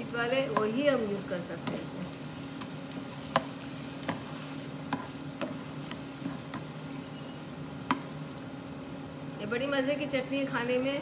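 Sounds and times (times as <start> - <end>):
onions sizzling in oil: 0.0 - 11.0
steady low hum: 0.0 - 11.0.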